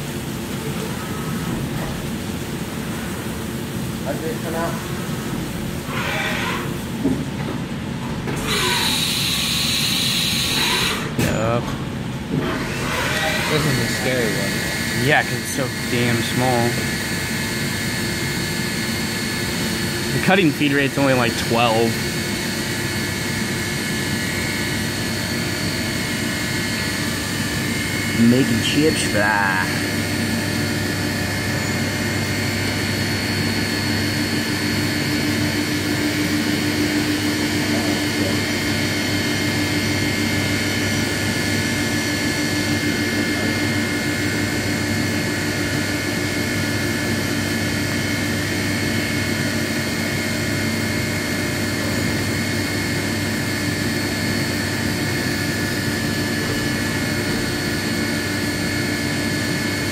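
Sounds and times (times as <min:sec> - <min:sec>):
milling machine humming: 0:07.8 - 0:11.2, 0:12.0 - 0:59.9
high machine whines: 0:08.4 - 0:11.2, 0:12.4 - 0:59.9.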